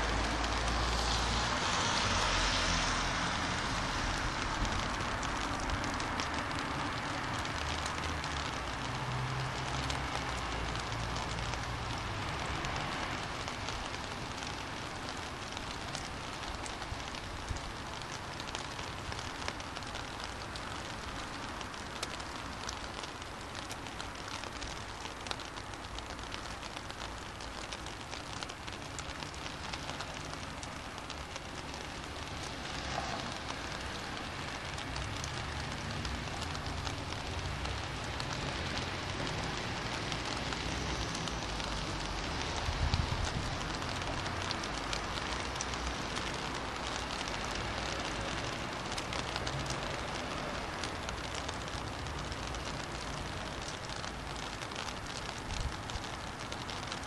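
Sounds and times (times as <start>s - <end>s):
rain falling on street: 0.0s - 57.0s
raindrops ticking close by: 0.0s - 57.0s
tyres hissing on wet asphalt: 0.0s - 57.0s.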